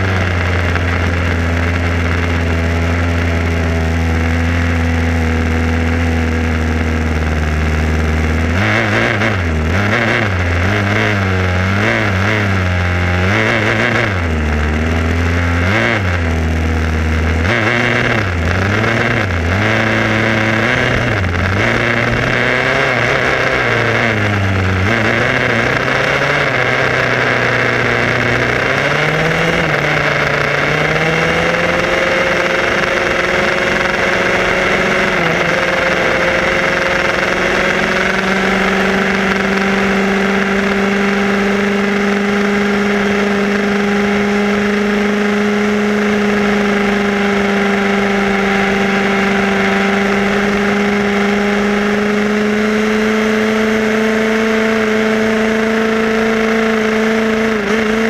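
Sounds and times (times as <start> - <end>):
small two-stroke engine running: 0.0 - 58.0.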